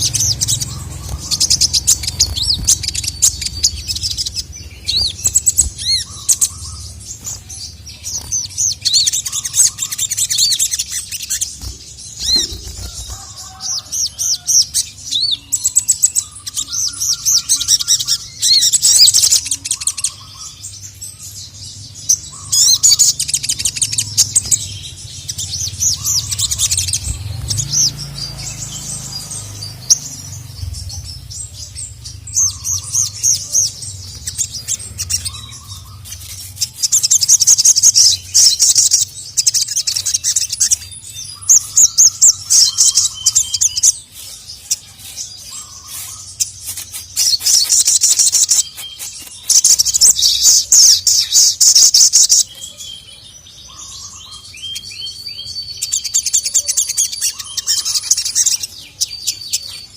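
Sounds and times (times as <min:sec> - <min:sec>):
bird chirping rapidly: 0:00.0 - 0:59.9.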